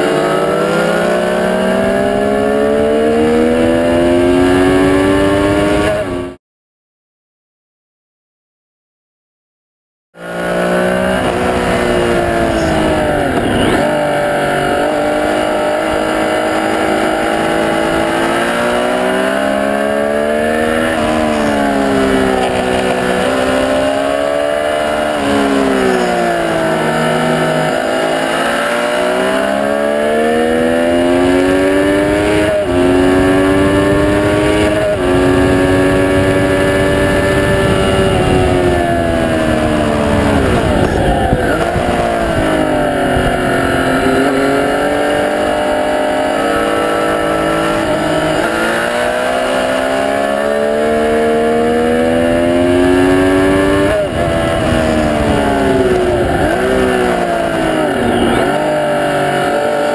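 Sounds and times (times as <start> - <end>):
motorcycle engine revving: 0.0 - 6.4, 10.2 - 59.9.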